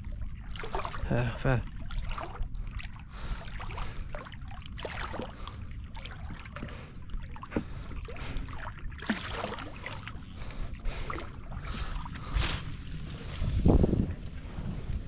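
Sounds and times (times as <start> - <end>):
water splashing and dripping: 0.0 - 12.6.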